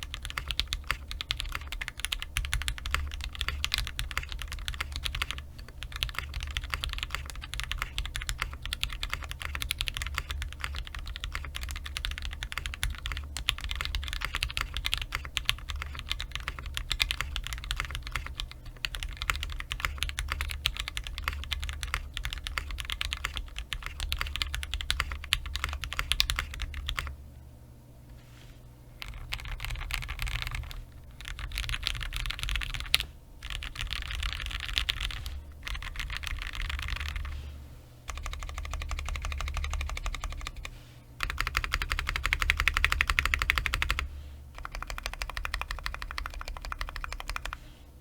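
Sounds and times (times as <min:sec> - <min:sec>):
fast mechanical keyboard typing: 0:00.0 - 0:27.2, 0:29.0 - 0:37.4, 0:38.1 - 0:47.6
low steady hum: 0:00.0 - 0:48.0.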